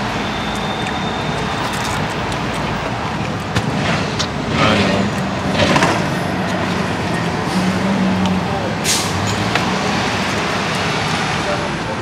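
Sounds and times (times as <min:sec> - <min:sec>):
street traffic cars passing: 0:00.0 - 0:12.0.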